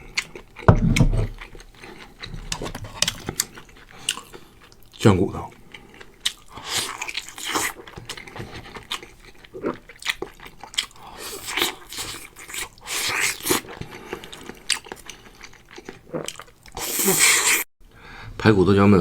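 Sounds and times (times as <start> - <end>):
person chewing and gnawing bones: 0.0 - 17.7.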